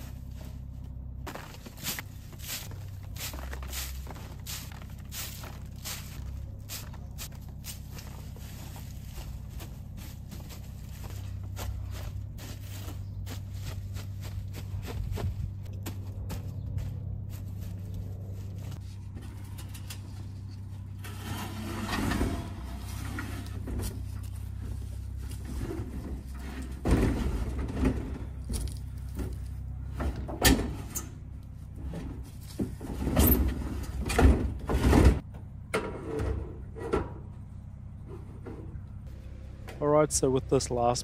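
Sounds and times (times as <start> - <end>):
steady low hum: 0.0 - 41.0
tank knocking and scraping: 0.0 - 41.0.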